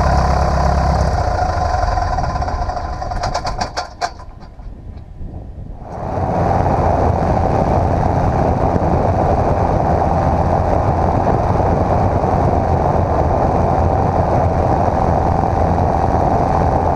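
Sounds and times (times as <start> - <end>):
small plane engine and propeller: 0.0 - 5.2, 5.8 - 16.9.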